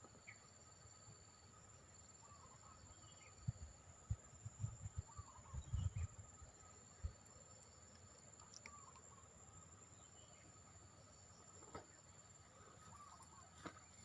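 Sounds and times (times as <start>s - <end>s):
faint bird chirps: 1.9s - 14.0s.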